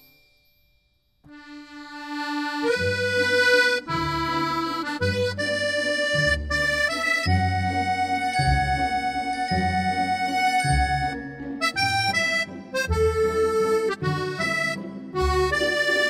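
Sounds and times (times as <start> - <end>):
sustained chords and bass line: 2.6 - 15.9.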